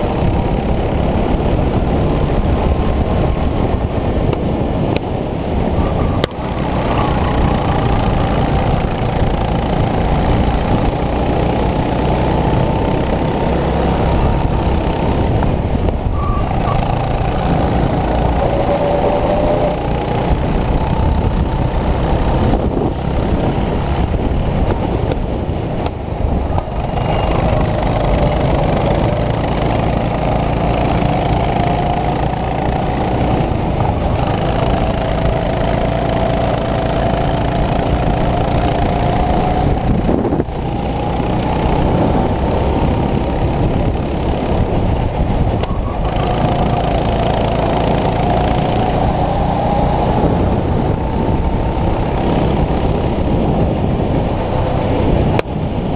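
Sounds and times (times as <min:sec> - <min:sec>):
go-kart engine racing: 0:00.0 - 0:55.9.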